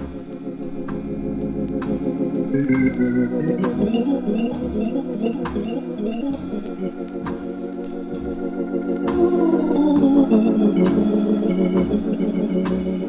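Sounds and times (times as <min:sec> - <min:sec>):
drum kit: 0:00.0 - 0:13.0
jazz organ chords: 0:00.0 - 0:13.0.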